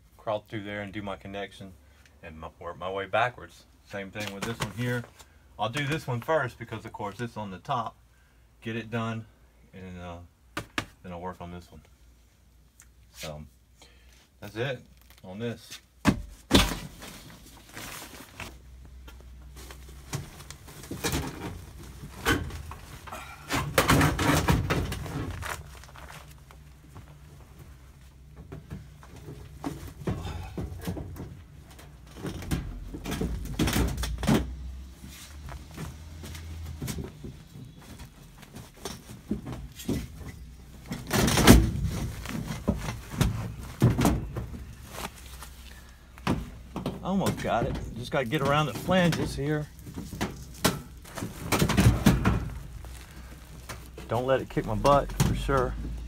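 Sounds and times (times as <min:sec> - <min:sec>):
knocks and rustling of ductwork: 0:04.0 - 0:07.3, 0:14.5 - 0:56.0.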